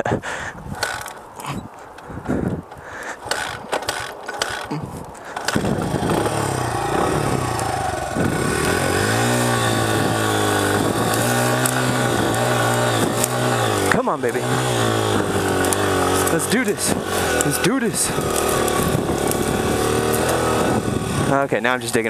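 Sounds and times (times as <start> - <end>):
motorcycle engine revving: 0.7 - 1.7, 3.2 - 22.0.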